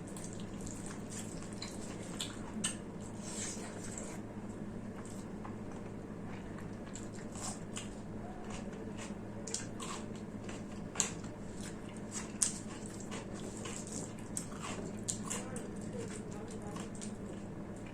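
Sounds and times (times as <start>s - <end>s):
person chewing wetly: 0.0s - 4.2s, 4.9s - 17.9s.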